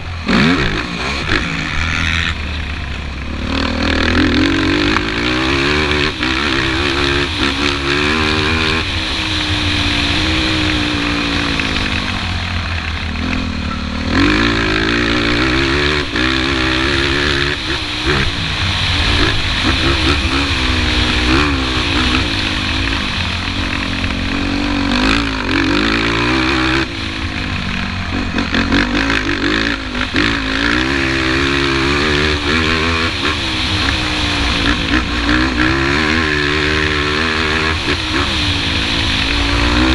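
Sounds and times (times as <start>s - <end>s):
quad engine revving: 0.0s - 39.9s
wind and riding noise: 0.0s - 39.9s.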